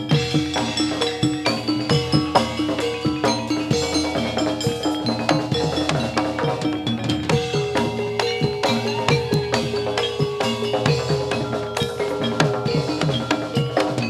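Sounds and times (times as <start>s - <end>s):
gongs: 0.0s - 14.0s
hand drums fast rhythm: 0.0s - 14.0s.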